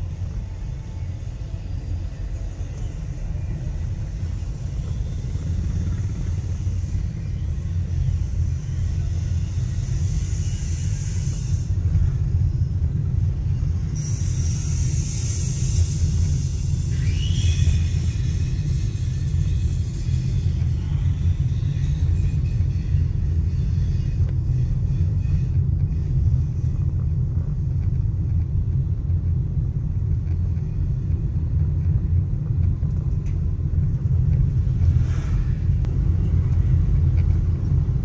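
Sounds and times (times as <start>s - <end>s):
car interior driving rumble: 0.0s - 38.0s
hissy road noise: 0.0s - 38.0s.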